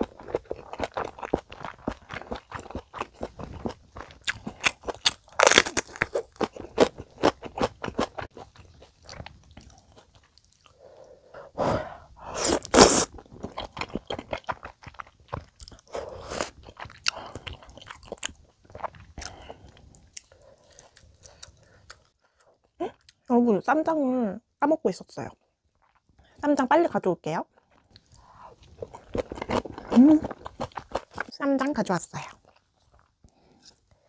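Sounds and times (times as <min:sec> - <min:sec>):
person chewing food: 0:00.0 - 0:11.2, 0:12.3 - 0:23.2, 0:25.7 - 0:26.3, 0:27.6 - 0:31.3, 0:32.3 - 0:34.0.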